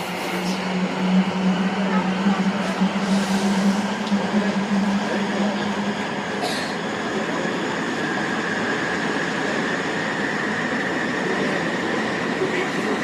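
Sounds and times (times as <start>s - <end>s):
train wheels and air rumbling: 0.0s - 13.0s.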